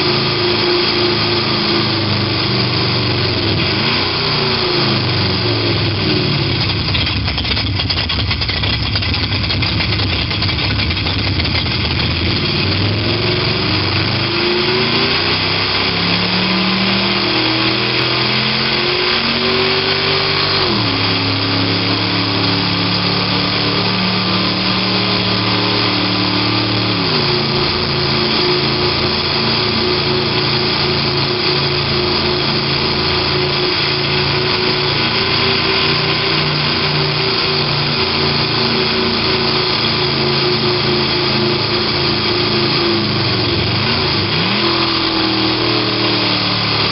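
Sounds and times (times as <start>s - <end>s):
sports car engine sound accelerating: 0.0s - 46.9s.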